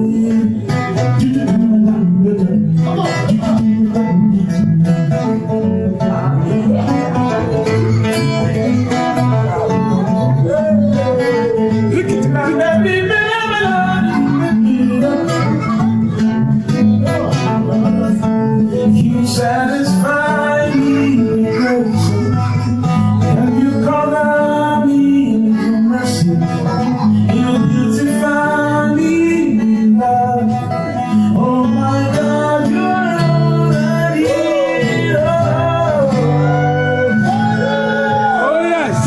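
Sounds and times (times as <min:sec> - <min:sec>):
guitar-led music: 0:00.0 - 0:39.0
person singing: 0:00.0 - 0:39.0.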